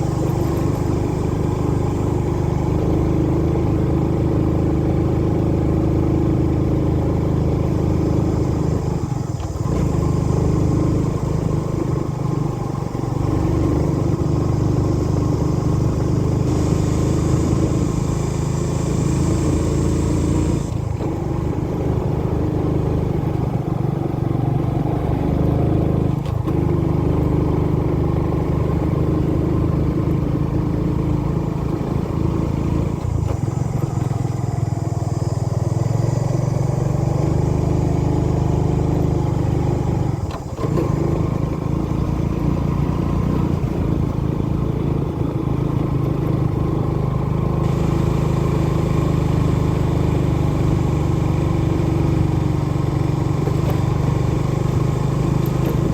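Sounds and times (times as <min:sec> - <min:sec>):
motorbike engine running: 0:00.0 - 0:55.9.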